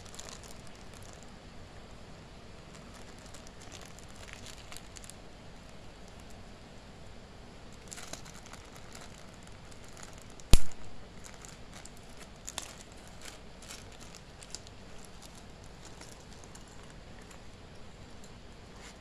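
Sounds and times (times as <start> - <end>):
plastic packaging crinkling: 0.0 - 1.4, 2.6 - 6.4, 7.7 - 19.0.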